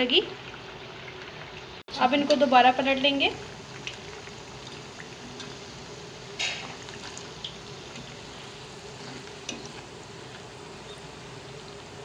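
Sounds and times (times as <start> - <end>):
patties sizzling in hot oil: 0.0 - 12.0.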